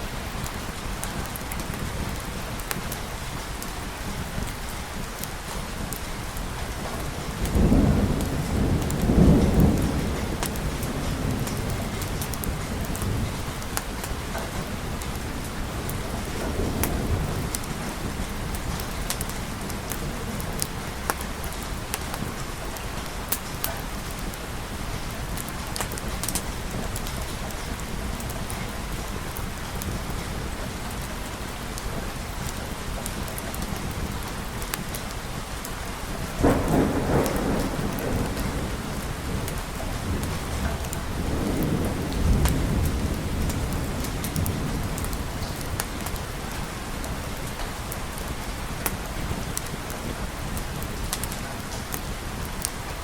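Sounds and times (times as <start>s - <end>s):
steady rain falling: 0.0s - 53.0s
thunder rumbling: 0.0s - 53.0s.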